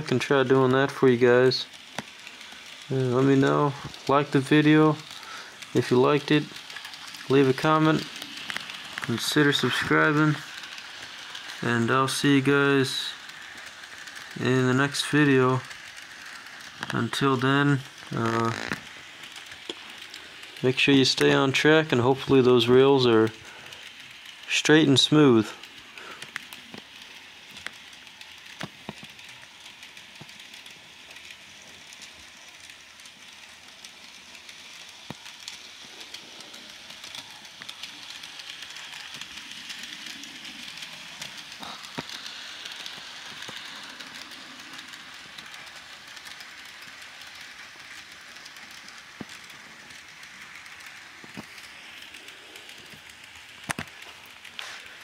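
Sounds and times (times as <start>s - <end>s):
model train motor whirring: 0.0s - 55.0s.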